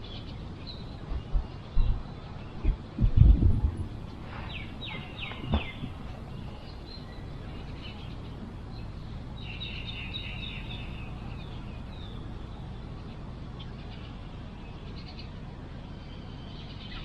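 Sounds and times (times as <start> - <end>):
low rumble: 0.0 - 14.2
small birds chirping: 0.0 - 17.0.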